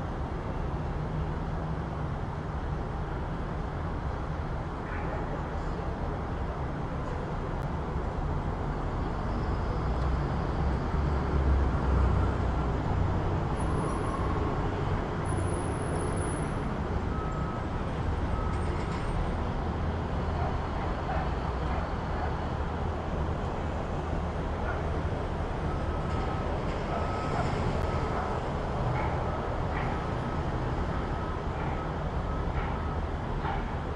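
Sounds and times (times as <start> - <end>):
street traffic rumble: 0.0 - 33.9.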